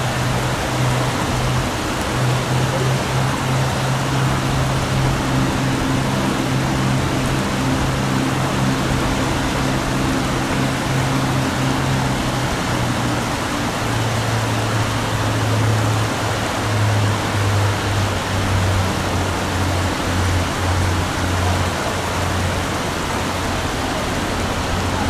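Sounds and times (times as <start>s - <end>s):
background music bass notes: 0.0s - 25.0s
rain hissing: 0.0s - 25.0s.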